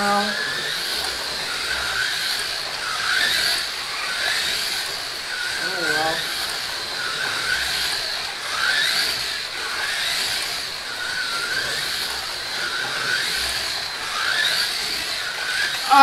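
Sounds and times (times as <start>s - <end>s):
slot car motors whining: 0.0s - 16.0s.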